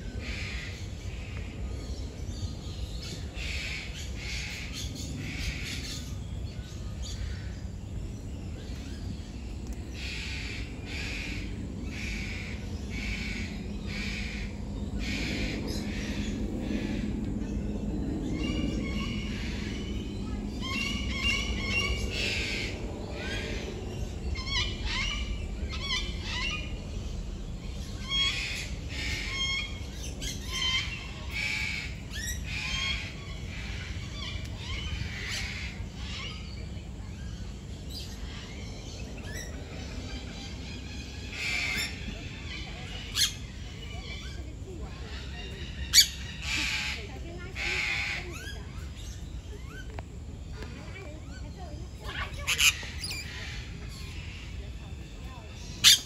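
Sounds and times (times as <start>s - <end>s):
birds chirping: 0.0s - 56.0s
low background rumble: 0.0s - 56.0s.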